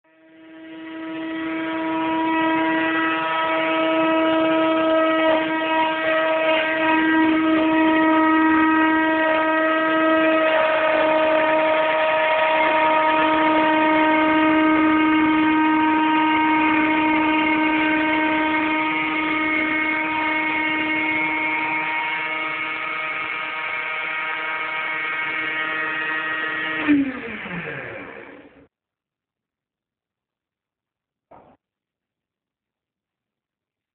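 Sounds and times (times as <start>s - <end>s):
trim router whining: 0.1s - 28.7s.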